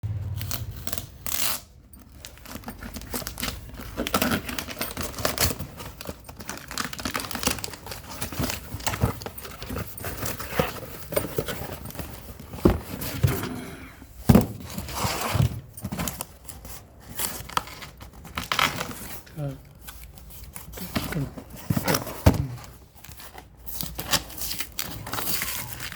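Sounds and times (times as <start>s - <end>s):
packaging crinkling and tearing: 0.1s - 12.6s, 16.0s - 25.9s.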